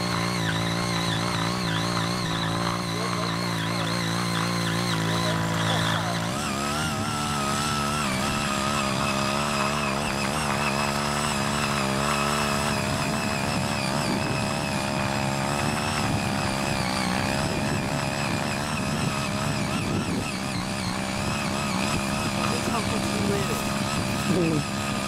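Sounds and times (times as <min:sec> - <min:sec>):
rotary tiller engine under load: 0:00.0 - 0:25.0.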